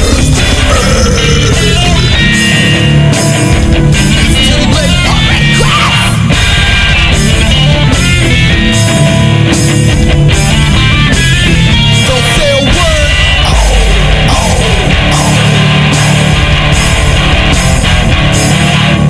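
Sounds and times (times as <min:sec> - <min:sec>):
heavy rock music: 0:00.0 - 0:19.0.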